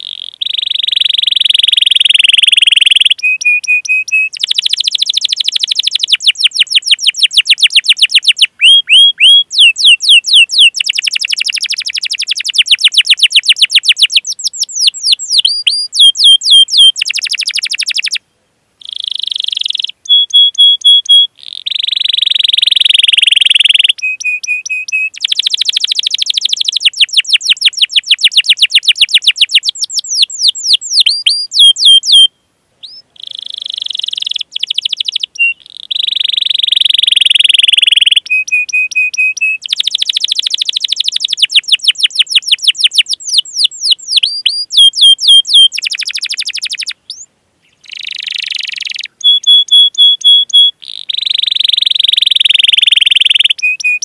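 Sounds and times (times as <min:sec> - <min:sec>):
canary singing: 0:00.0 - 0:18.2, 0:18.8 - 0:54.0.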